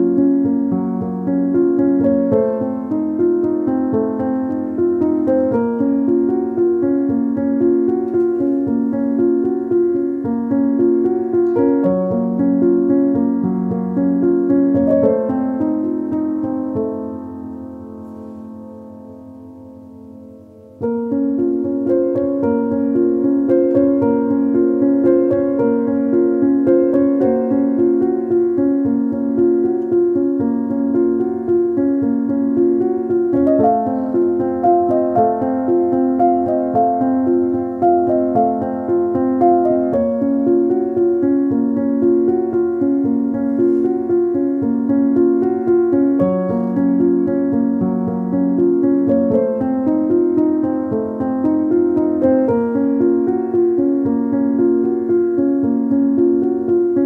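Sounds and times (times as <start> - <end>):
gentle keyboard melody: 0.0 - 57.0.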